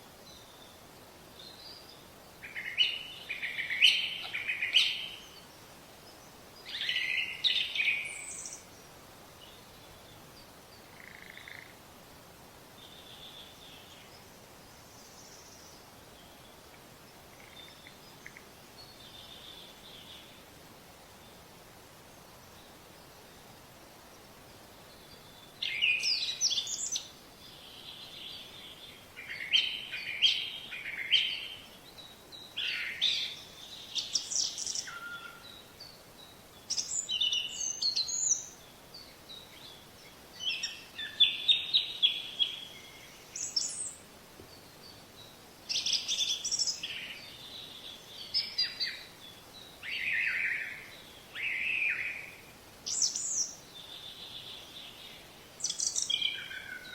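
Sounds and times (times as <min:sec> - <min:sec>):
faint steady hiss: 0:00.0 - 0:56.9
songbirds chirping and trilling: 0:00.0 - 0:56.9.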